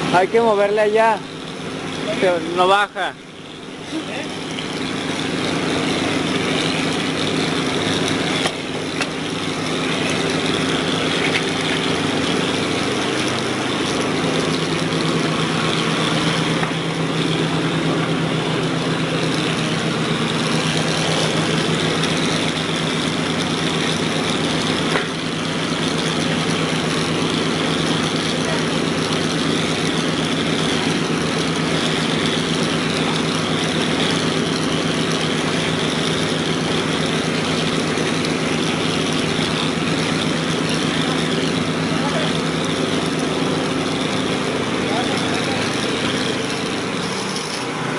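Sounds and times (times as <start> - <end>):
heavy machine engine running: 0.0 - 47.9.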